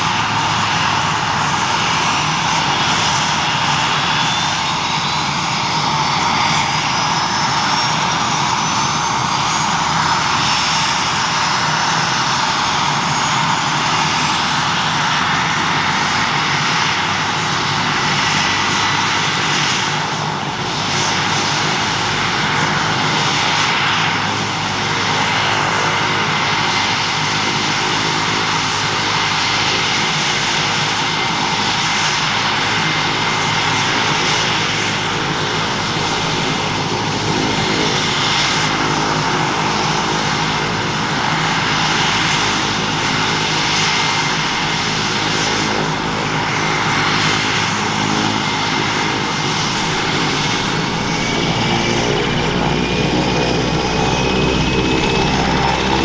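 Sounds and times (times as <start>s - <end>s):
helicopter engines and rotors: 0.0s - 56.0s.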